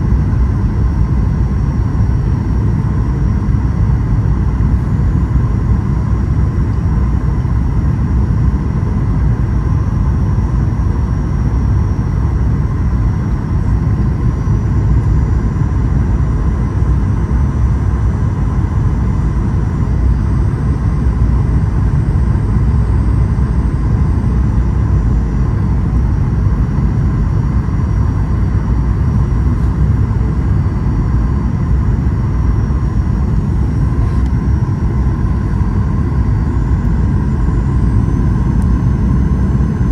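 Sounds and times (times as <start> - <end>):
airliner engine rumble: 0.0 - 39.9
faint steady whine: 0.0 - 39.9.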